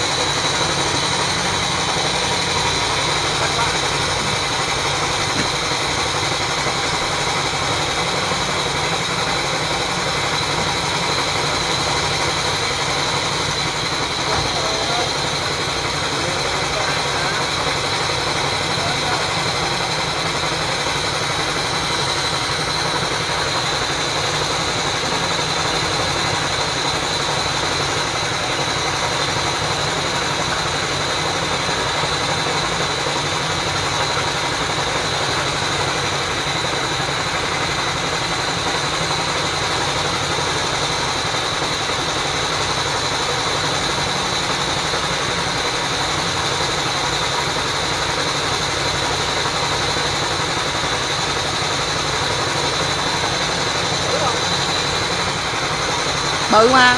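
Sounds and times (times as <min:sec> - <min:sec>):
water pump engine droning: 0:00.0 - 0:56.9.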